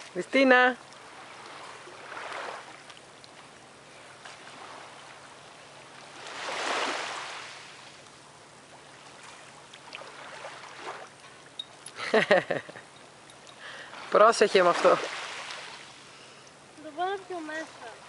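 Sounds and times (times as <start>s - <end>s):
faint steady hum: 0.0s - 14.1s, 15.3s - 18.0s
sea water lapping: 0.0s - 18.0s.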